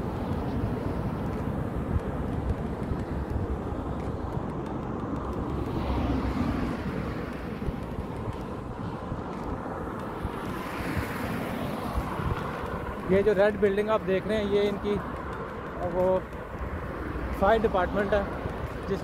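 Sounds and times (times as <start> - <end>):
highway traffic noise: 0.0 - 19.0.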